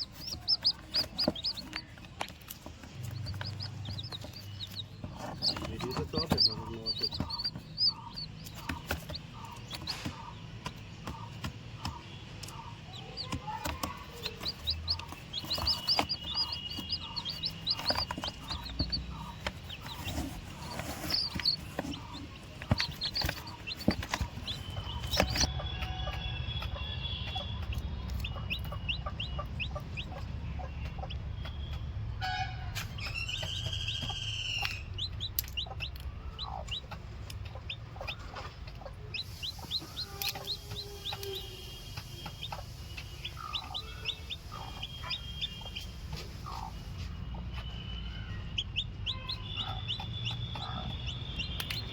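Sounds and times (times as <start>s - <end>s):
chickens clucking: 0.0s - 51.9s
chicks peeping: 0.0s - 51.9s.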